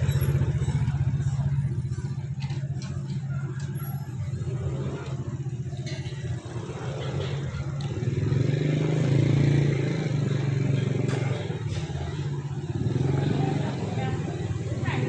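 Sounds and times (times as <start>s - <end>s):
street traffic noise: 0.0s - 15.0s
vehicle engine running: 0.0s - 15.0s.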